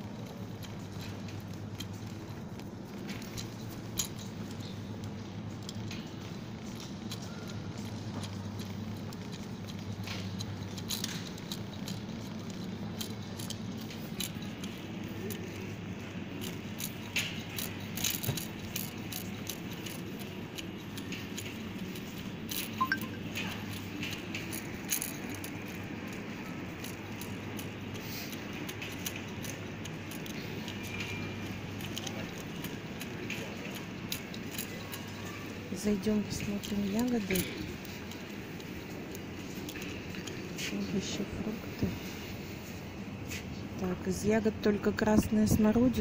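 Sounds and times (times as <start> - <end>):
wire shopping trolley rattling: 0.0 - 46.0.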